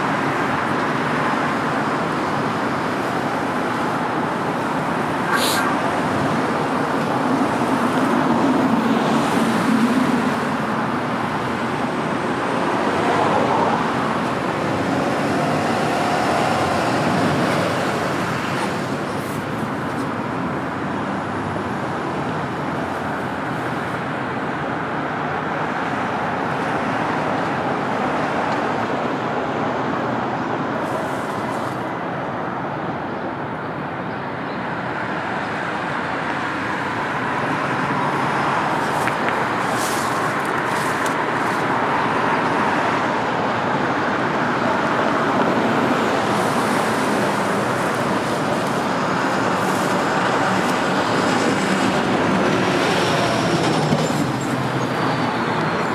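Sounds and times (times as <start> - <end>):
bus and cars driving past: 0.0 - 55.9.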